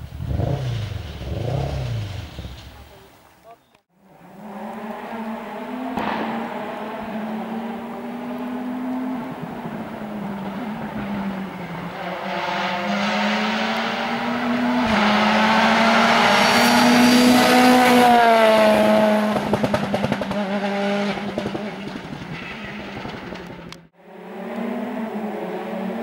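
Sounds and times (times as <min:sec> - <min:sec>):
exhaust crackles: 0:00.0 - 0:26.0
rally car engine passing: 0:04.0 - 0:26.0.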